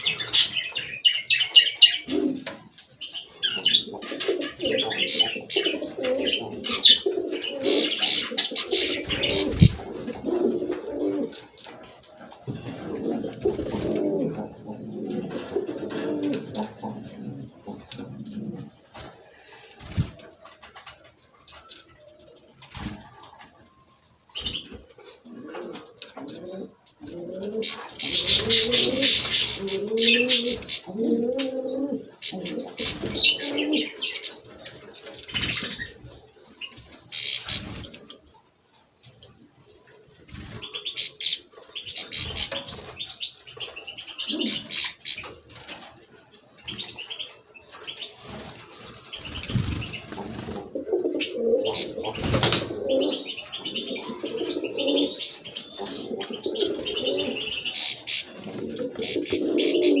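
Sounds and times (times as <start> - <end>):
pigeons cooing: 0.0 - 20.4, 21.7 - 36.4, 37.1 - 38.3, 39.8 - 60.0
songbirds chirping: 0.0 - 60.0.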